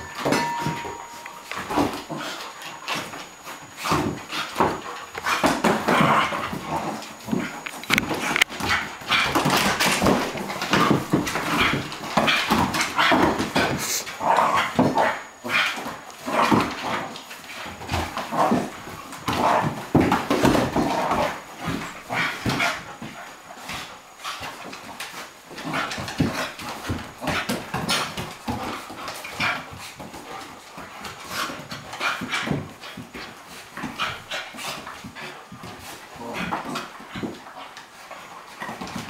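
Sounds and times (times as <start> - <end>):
dogs panting: 0.0 - 39.0
dogs play-fighting noises: 0.0 - 39.0.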